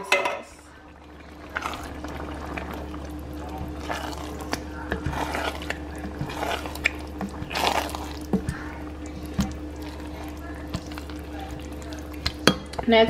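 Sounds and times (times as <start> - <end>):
steady low hum: 0.0 - 13.0
sauce squelching and pouring: 0.7 - 12.8.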